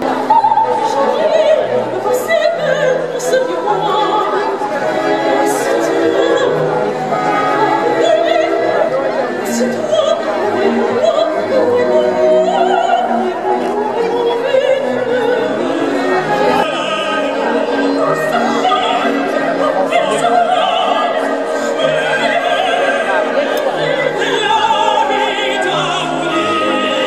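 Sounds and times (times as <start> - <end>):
operatic singer with vibrato: 0.0 - 27.0
orchestral music over loudspeakers: 0.0 - 27.0.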